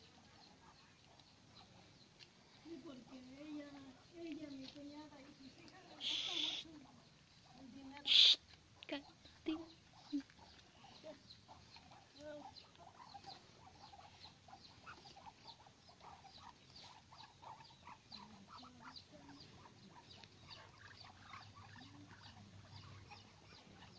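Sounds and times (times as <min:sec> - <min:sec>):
rabbit chewing grass: 0:00.0 - 0:23.9
hen clucking: 0:02.8 - 0:23.9.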